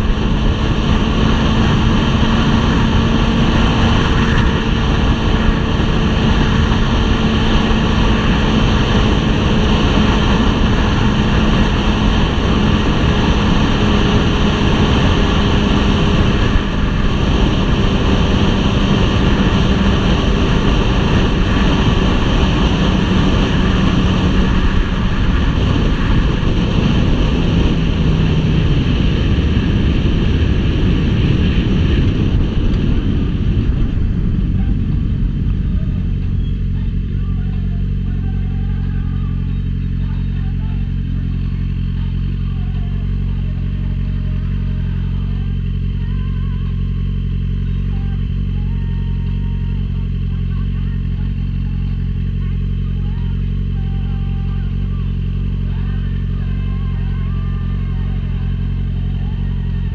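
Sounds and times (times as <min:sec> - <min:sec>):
heavy wind on microphone: 0:00.0 - 0:59.9
motorcycle engine cruising: 0:00.0 - 0:59.9.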